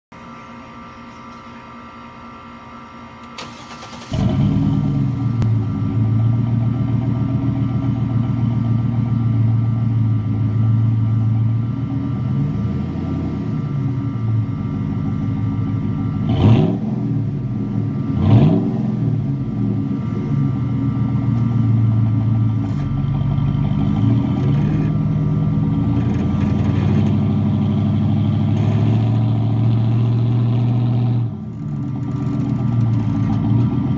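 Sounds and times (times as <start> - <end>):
engine throttle blips: 0.2 - 33.9
truck engine idling loudly: 0.2 - 33.9.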